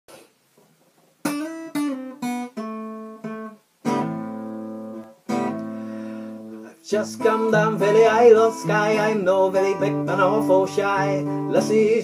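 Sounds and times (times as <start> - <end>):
acoustic guitar strumming: 1.2 - 12.0.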